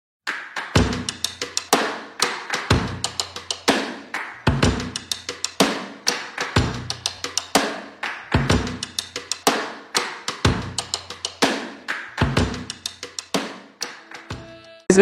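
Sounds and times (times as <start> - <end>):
sharp snare hits: 0.3 - 14.3.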